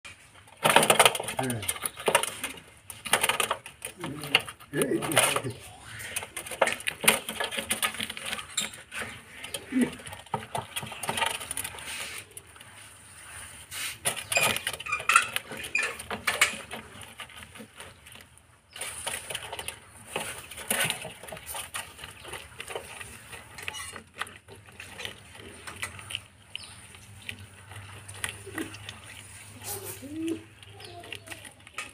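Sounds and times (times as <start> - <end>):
animal chewing crunchily: 0.0 - 31.9.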